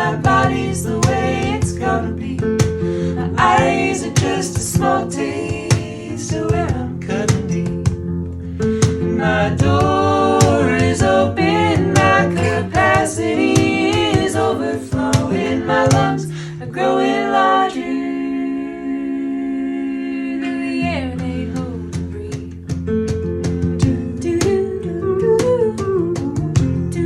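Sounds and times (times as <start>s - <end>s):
bass guitar: 0.0s - 16.6s, 20.8s - 27.0s
guitar: 0.0s - 18.0s, 20.2s - 27.0s.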